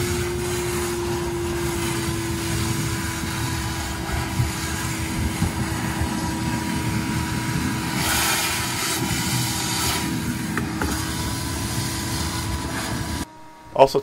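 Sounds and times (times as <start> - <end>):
hiss of air and water: 0.0 - 13.3
vacuum cleaner motor whining: 0.0 - 13.5.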